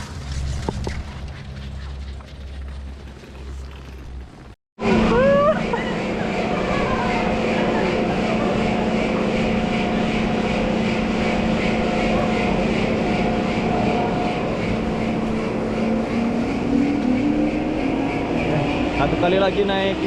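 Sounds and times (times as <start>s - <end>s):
chairlift machinery humming: 2.8s - 20.0s.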